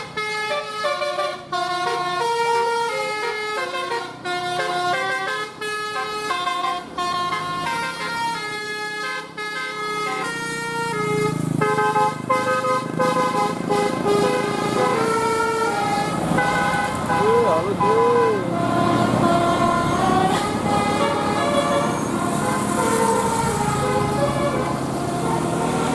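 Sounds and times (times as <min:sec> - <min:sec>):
multi-tone bus horn melody: 0:00.0 - 0:25.9.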